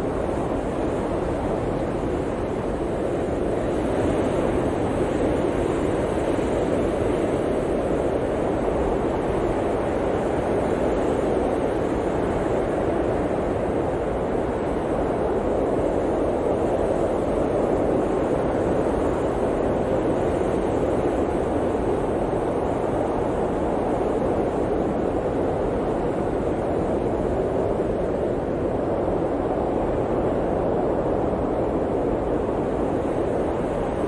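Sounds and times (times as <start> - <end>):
blizzard wind blowing: 0.0 - 34.0.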